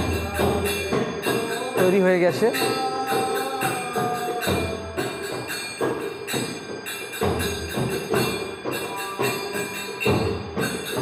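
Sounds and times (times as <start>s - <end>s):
devotional chanting music: 0.0s - 11.0s
hand cymbals ringing: 0.0s - 11.0s.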